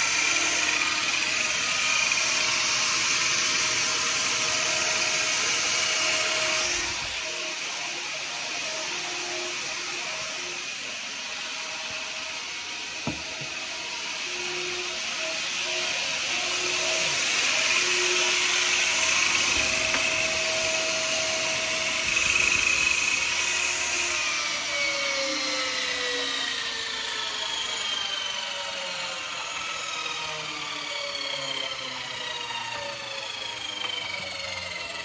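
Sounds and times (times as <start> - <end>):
saw blade cutting wood: 0.0 - 35.0
table saw motor whine: 0.0 - 35.0.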